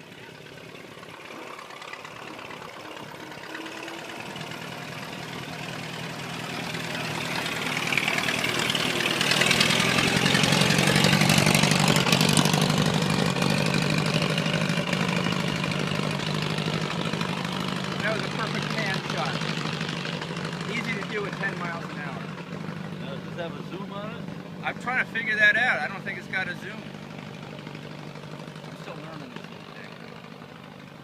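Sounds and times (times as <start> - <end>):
truck engine driving past: 0.0 - 31.0.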